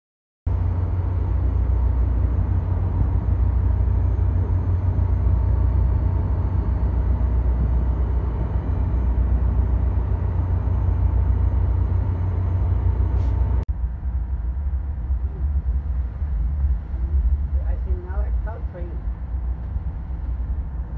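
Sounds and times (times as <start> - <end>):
diesel locomotive rumble: 0.5 - 20.9
moving train rumble: 0.5 - 20.9.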